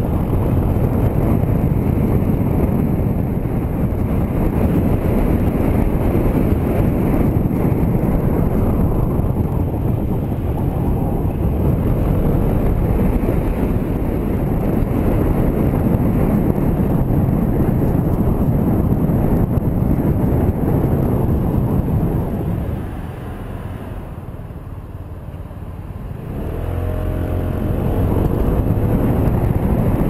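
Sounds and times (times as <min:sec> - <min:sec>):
motorcycle engine: 0:00.0 - 0:30.0
wind rumble on microphone: 0:00.0 - 0:30.0.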